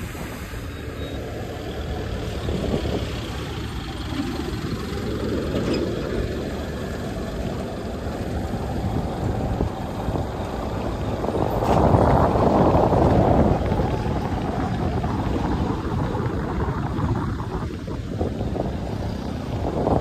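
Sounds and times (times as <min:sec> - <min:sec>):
boat engine humming: 0:00.0 - 0:20.0
water wash: 0:00.0 - 0:20.0.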